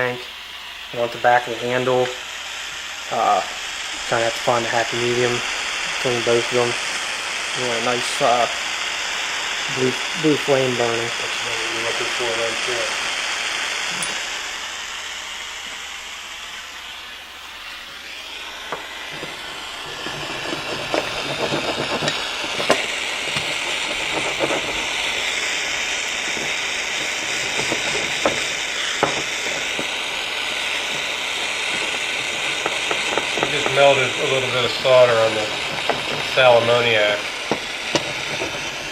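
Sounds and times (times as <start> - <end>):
solder crackling and sizzling: 0.0 - 38.9
soldering torch hissing: 0.0 - 38.9.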